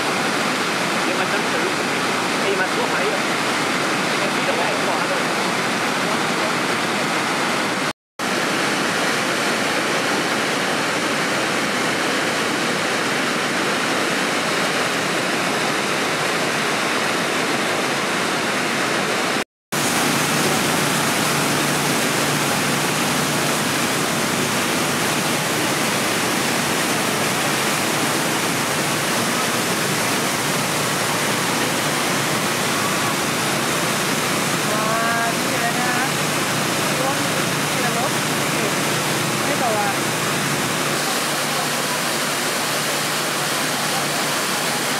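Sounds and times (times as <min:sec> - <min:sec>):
waterfall rushing into pool: 0:00.0 - 0:44.9.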